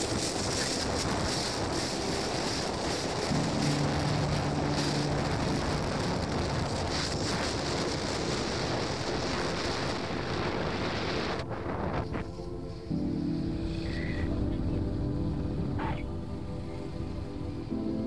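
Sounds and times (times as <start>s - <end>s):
low hum: 0.0s - 18.0s
wind on microphone: 0.0s - 18.0s.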